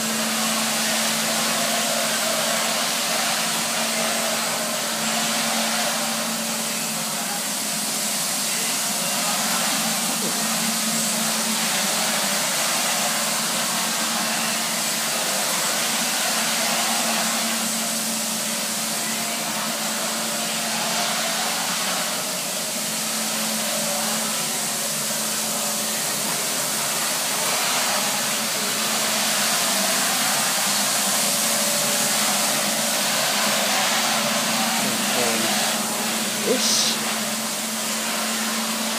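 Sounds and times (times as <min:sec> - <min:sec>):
scrubber dryer motor hum: 0:00.0 - 0:38.9.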